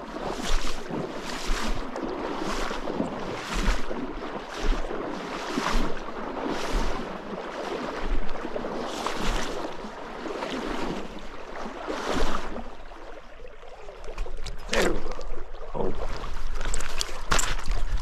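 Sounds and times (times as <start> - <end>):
sharp water splashes: 0.0 - 18.0
stream water sloshing: 0.0 - 18.0.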